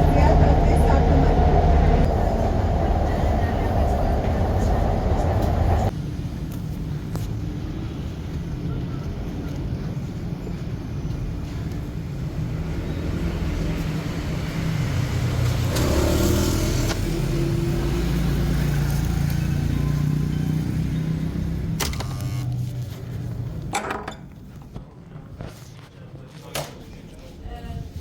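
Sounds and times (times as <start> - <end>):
vehicle rumble and hum: 0.0 - 25.5.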